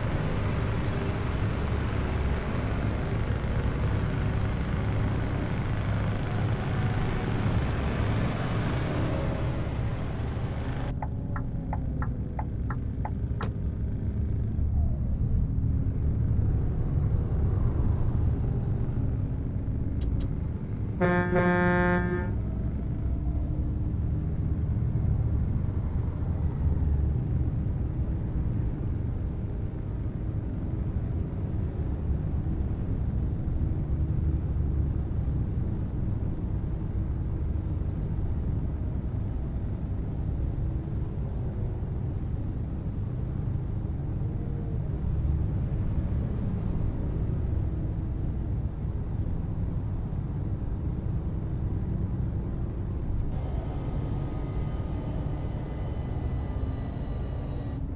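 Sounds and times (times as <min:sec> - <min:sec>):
diesel truck engine rumbling: 0:00.0 - 0:57.9.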